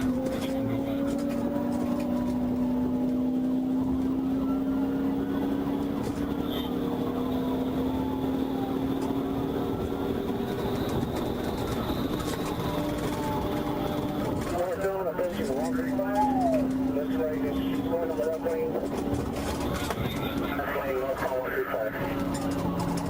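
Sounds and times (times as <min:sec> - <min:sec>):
aircraft engine drone: 0:00.0 - 0:23.0
noisy background: 0:00.0 - 0:23.0.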